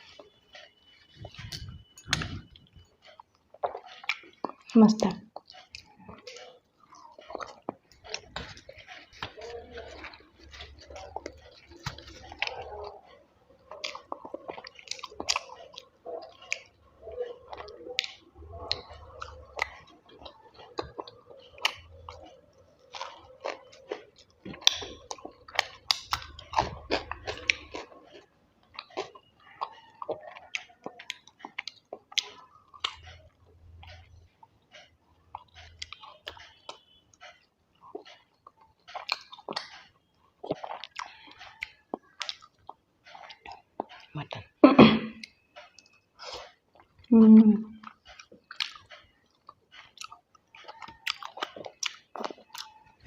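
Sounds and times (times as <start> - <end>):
wet chewing and mouth sounds: 0.0 - 53.0.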